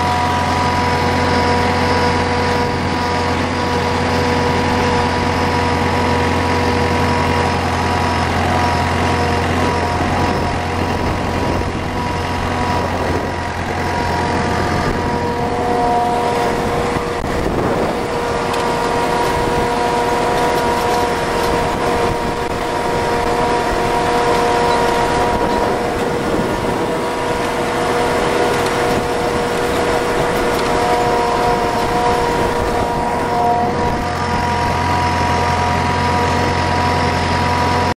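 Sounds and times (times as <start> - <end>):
steady high whine: 0.0 - 37.9
tractor diesel engine: 0.0 - 38.0.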